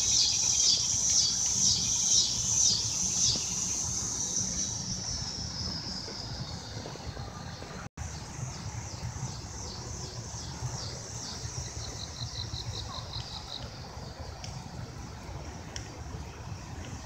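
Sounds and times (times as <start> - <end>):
insect song in rhythmic pulses: 0.0 - 15.8.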